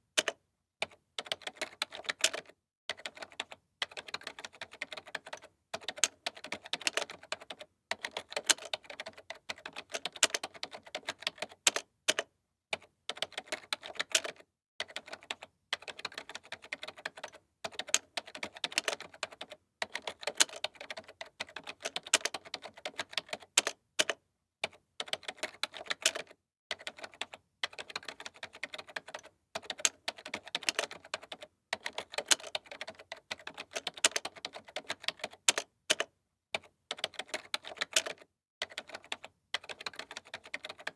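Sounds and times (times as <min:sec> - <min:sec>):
typing on computer keyboard: 0:00.1 - 0:40.9.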